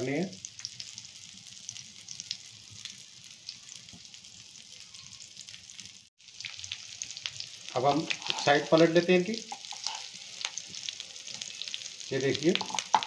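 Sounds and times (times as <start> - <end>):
cutlets sizzling in oil: 0.0 - 13.0.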